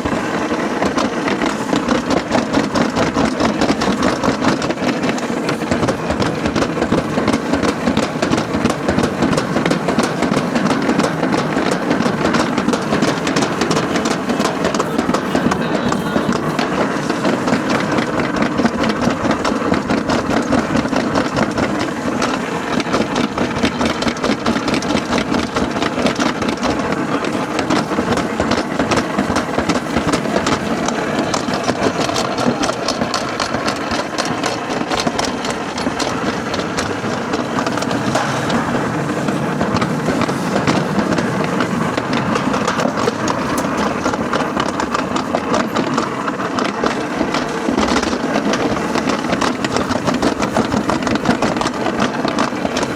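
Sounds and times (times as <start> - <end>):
sled wheels rattling on metal track: 0.0 - 52.9.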